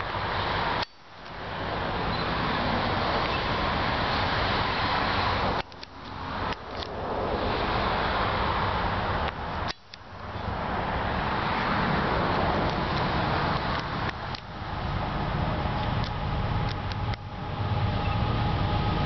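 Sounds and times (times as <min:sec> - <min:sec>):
freight train rumble: 0:00.0 - 0:19.0
road traffic: 0:00.0 - 0:19.0.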